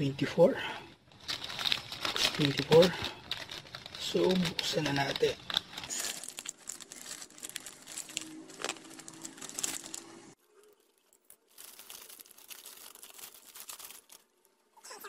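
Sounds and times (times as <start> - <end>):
plastic mailer bag crinkling: 1.1 - 14.5.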